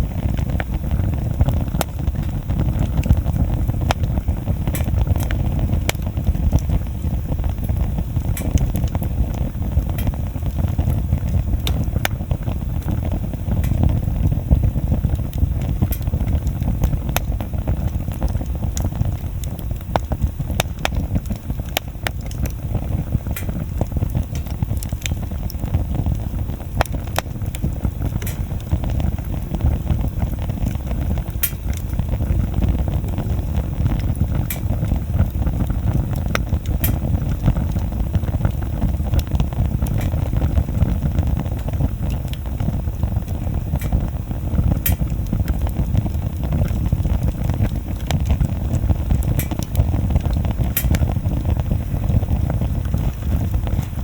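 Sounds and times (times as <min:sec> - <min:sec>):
bonfire crackling and popping: 0:00.0 - 0:54.0
low rumble: 0:00.0 - 0:54.0.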